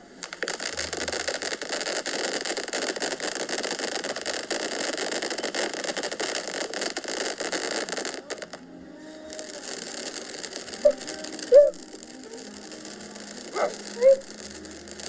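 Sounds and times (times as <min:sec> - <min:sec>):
firework crackling and hissing: 0:00.0 - 0:15.0.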